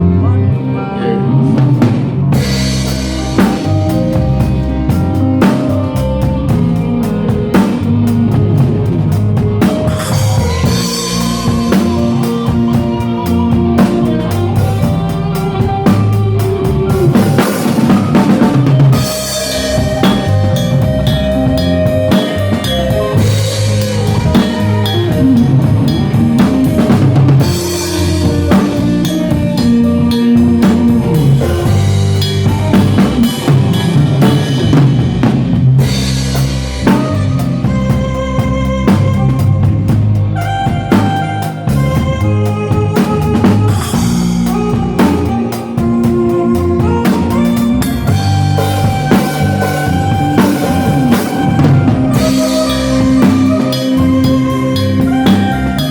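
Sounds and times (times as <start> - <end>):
band playing: 0.0 - 55.9
drum kit beat: 1.5 - 55.9.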